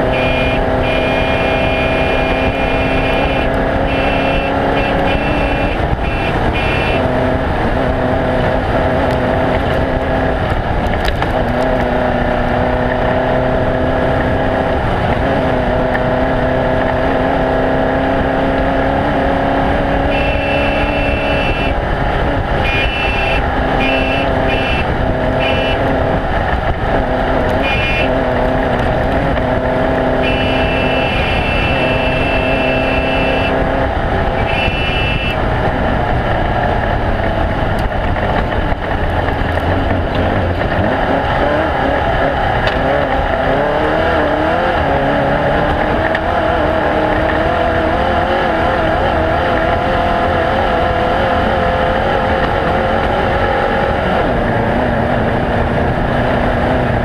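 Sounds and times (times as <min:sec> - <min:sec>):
race vehicle engine running hard: 0:00.0 - 0:57.0
road noise: 0:00.0 - 0:57.0.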